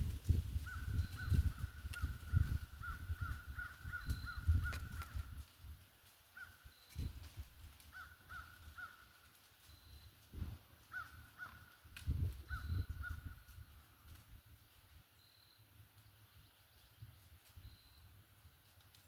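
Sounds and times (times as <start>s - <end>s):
birds calling: 0.6s - 5.4s, 7.9s - 18.8s.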